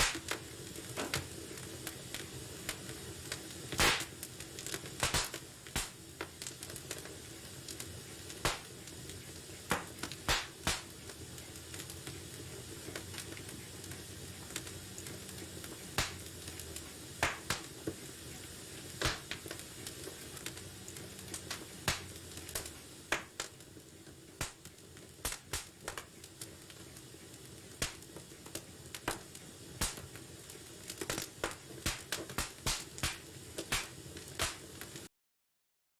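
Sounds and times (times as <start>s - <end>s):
flames hissing and rumbling: 0.0s - 35.1s.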